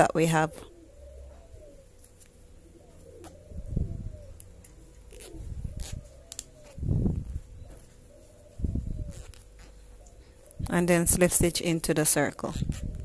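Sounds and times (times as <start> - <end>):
dove cooing: 0.0 - 11.4, 12.4 - 13.0.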